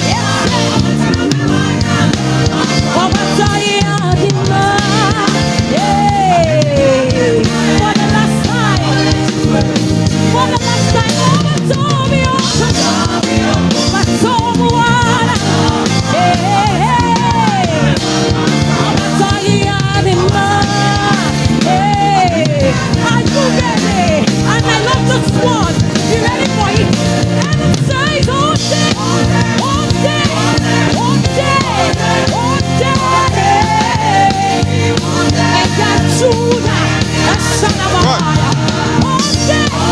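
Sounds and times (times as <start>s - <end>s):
bass guitar: 0.0s - 39.9s
drum kit: 0.0s - 39.9s
sliding melodic lead line: 0.0s - 39.9s.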